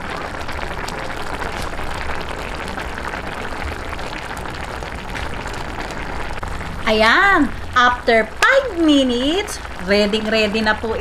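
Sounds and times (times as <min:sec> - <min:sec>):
broth bubbles popping: 0:00.0 - 0:11.0.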